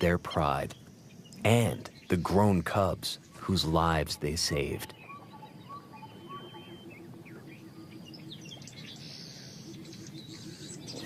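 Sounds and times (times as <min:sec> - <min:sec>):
bird chirps and calls: 0:00.0 - 0:11.0
steady background hiss: 0:00.0 - 0:11.0.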